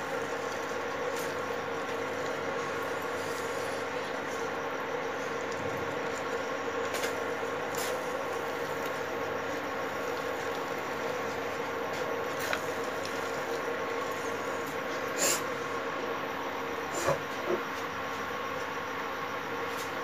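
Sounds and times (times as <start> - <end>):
steady hum: 0.0 - 20.0
thick mash sizzling and bubbling: 0.0 - 20.0.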